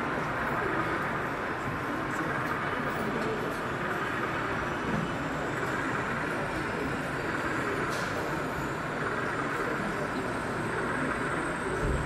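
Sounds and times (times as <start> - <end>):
busy hall background noise: 0.0 - 12.0
model train rolling on track: 0.0 - 12.0.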